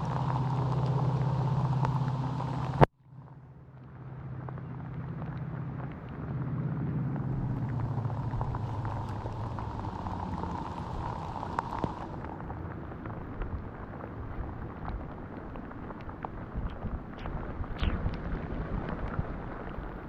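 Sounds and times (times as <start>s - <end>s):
low rumbling rain wash: 0.0s - 20.0s
raindrops ticking: 0.0s - 20.0s.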